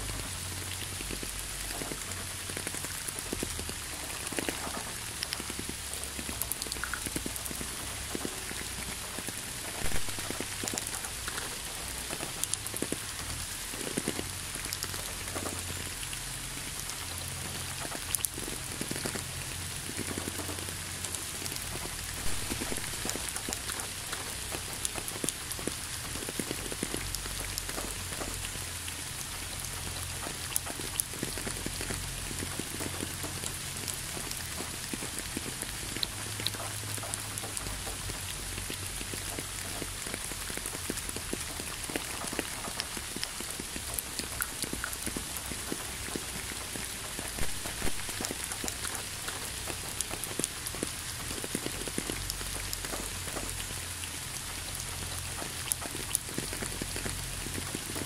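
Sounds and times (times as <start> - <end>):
rain falling: 0.0 - 58.0
raindrops ticking: 0.0 - 58.0.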